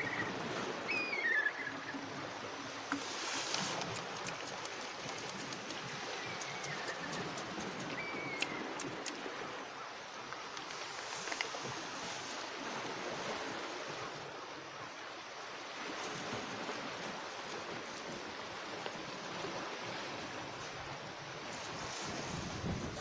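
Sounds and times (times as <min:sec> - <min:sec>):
surf washing on rocky shore: 0:00.0 - 0:09.8, 0:10.4 - 0:23.0.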